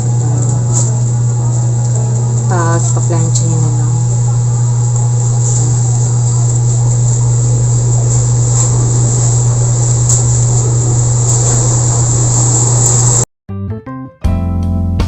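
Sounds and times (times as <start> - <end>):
continuous hiss: 0.0 - 13.2
low hum: 0.0 - 13.3.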